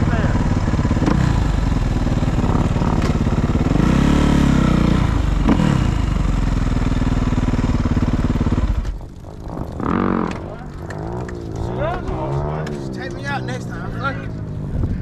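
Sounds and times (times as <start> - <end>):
dirt bike engine revving: 0.0 - 14.7.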